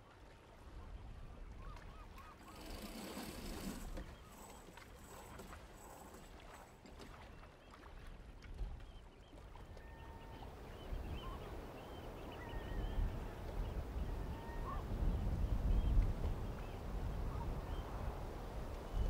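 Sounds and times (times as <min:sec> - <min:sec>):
waterbird calls: 0:01.3 - 0:18.1.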